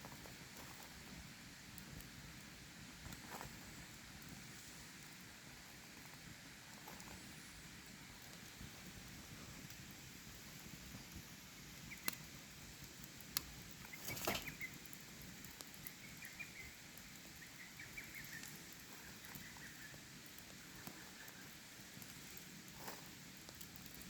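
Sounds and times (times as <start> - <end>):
campfire crackling: 0.0 - 24.0
fire popping: 0.0 - 24.0.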